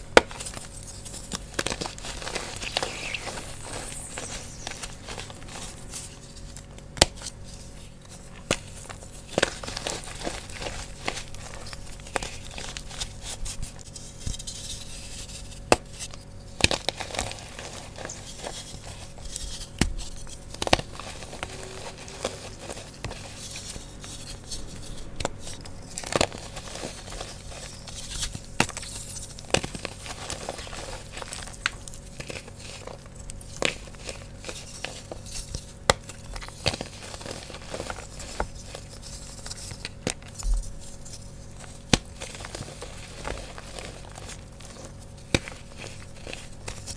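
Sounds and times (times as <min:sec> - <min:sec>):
chalk crunching and crumbling: 0:07.2 - 0:46.9.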